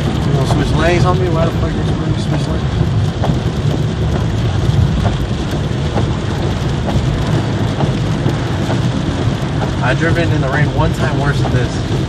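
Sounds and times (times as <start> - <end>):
rain on a car: 0.0 - 12.0
tyres on wet road: 0.0 - 12.0.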